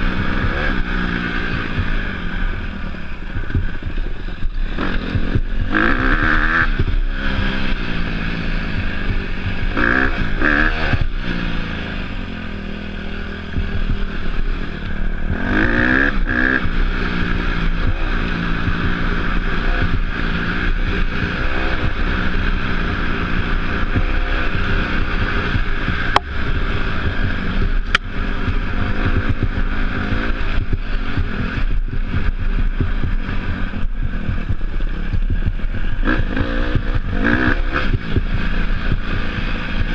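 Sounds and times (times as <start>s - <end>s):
motorcycle engine revving: 0.0s - 39.9s
rushing noise: 0.0s - 39.9s.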